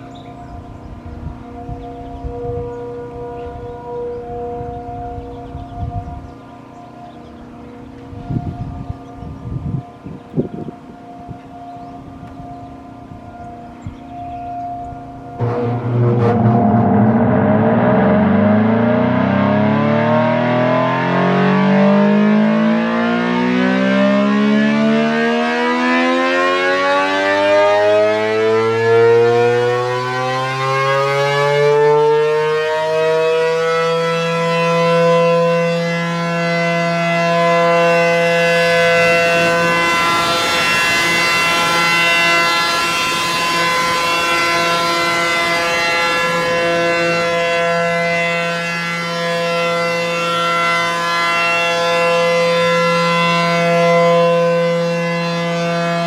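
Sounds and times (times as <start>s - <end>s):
electromechanical siren wailing: 0.0s - 56.0s.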